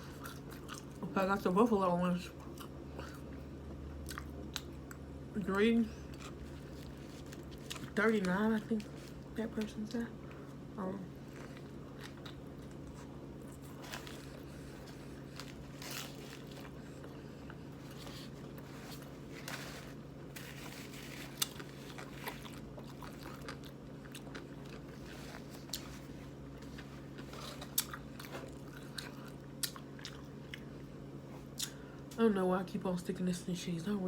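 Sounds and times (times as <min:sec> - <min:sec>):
person chewing crunchy food: 0:00.0 - 0:01.0, 0:02.4 - 0:05.2, 0:05.9 - 0:09.4, 0:10.2 - 0:31.8.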